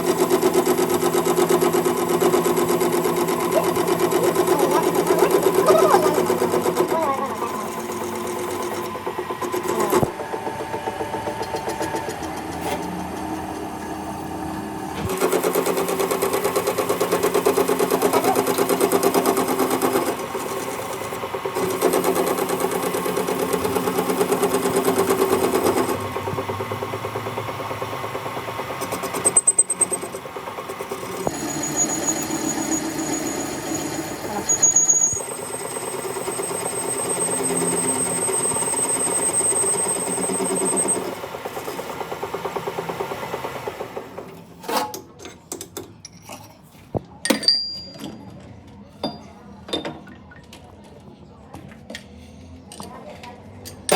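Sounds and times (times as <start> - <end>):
electric machine motor hum: 0.0 - 44.2.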